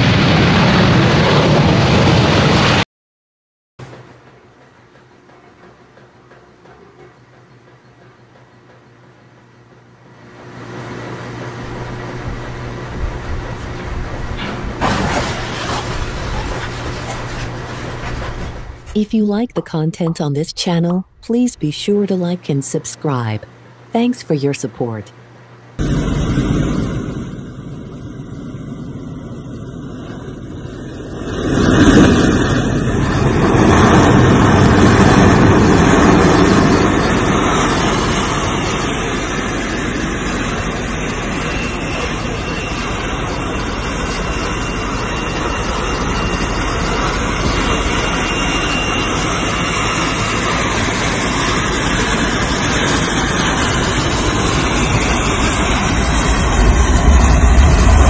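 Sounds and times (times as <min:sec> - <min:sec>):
helicopter engine and rotor noise: 0:03.9 - 0:58.0.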